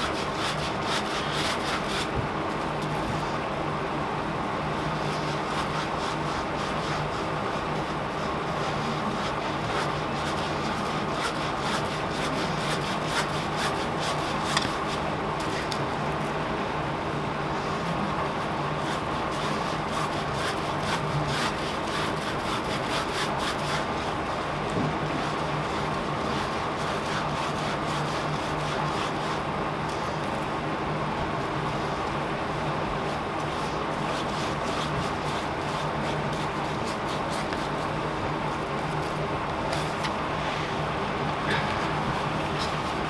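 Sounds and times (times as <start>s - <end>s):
sponge brush scraping resin: 0.0s - 3.5s, 4.7s - 15.8s, 17.5s - 30.4s, 31.6s - 40.9s, 41.5s - 43.0s
low hum and hiss: 0.0s - 43.0s.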